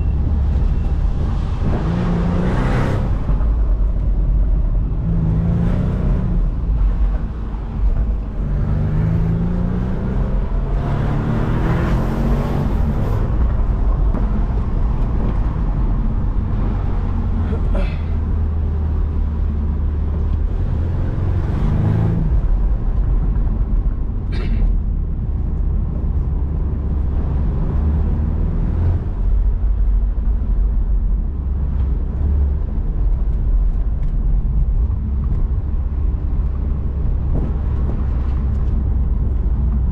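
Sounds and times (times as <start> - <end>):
car engine accelerating: 0.0 - 24.3, 25.0 - 39.9
road and wind noise: 0.0 - 39.9.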